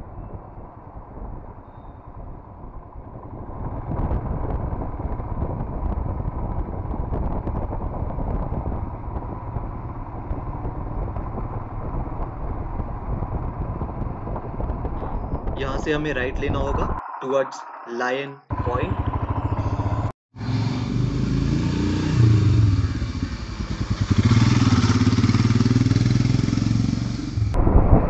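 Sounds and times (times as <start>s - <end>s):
wind and road noise: 0.0s - 28.0s
motorcycle engine running: 0.1s - 15.5s, 18.5s - 27.6s.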